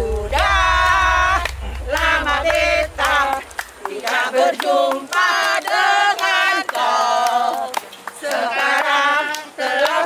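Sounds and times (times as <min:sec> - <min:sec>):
group singing: 0:00.0 - 0:10.0.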